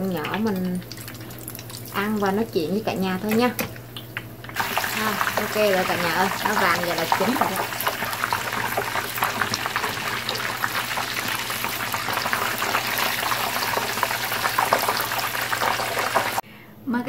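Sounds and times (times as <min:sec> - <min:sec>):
cheese sticks deep-frying in oil: 0:00.0 - 0:16.4.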